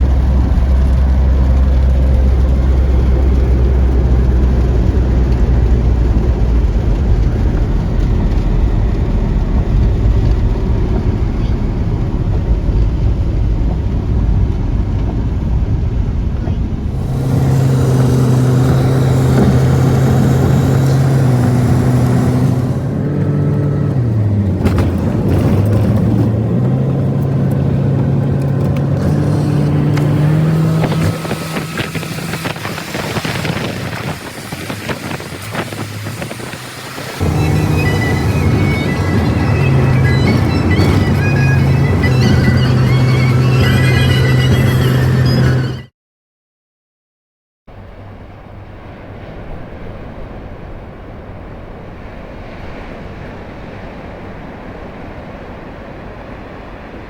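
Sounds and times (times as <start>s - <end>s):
vehicle engine rumbling: 0.0s - 45.9s.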